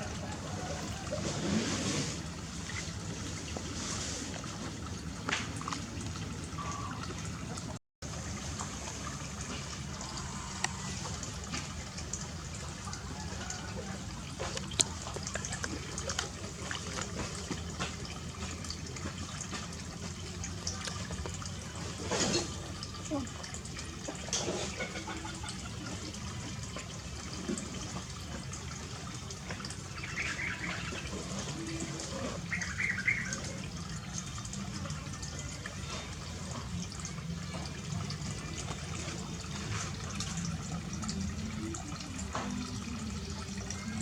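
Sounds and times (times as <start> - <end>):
water running and splashing: 0.0 - 44.0
water dripping: 2.2 - 44.0.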